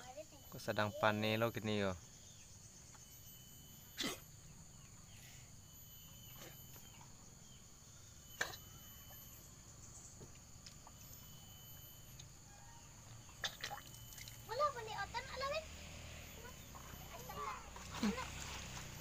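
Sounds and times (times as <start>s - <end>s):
insect chirring: 0.0s - 19.0s.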